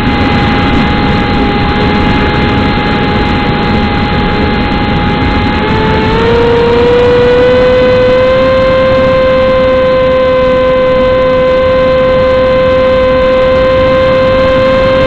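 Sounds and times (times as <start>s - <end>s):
model plane motor whine: 0.0s - 15.0s
wind rush: 0.0s - 15.0s.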